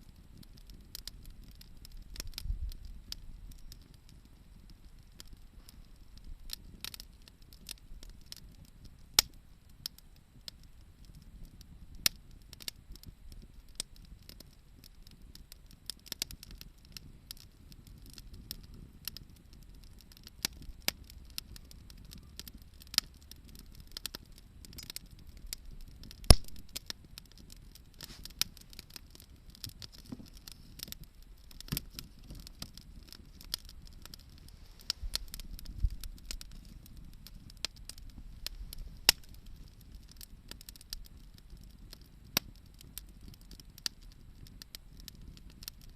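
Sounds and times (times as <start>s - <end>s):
bonfire crackling and popping: 0.0s - 45.9s
low fire rumble: 0.0s - 45.9s.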